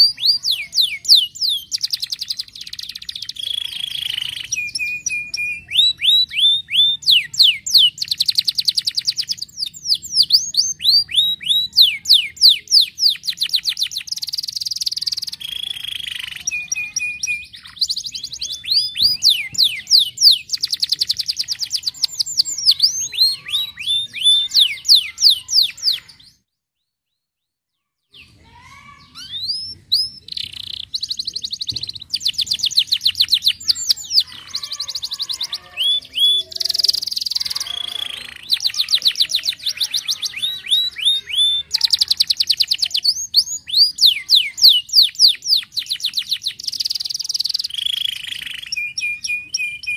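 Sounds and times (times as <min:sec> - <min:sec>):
canary singing trills: 0:00.0 - 0:26.9, 0:27.8 - 0:49.9.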